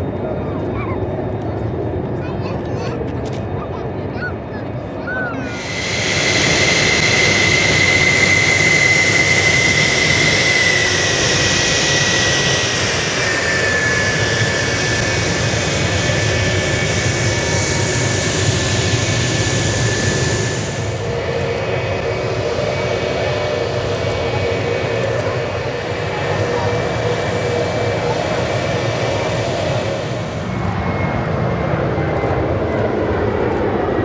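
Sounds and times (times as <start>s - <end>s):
aircraft turbine engine whining: 0.0s - 34.0s.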